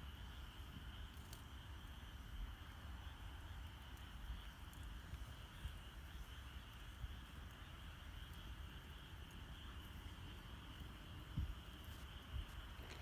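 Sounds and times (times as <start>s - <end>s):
campfire crackling: 0.0s - 13.0s
night insects trilling: 0.0s - 13.0s.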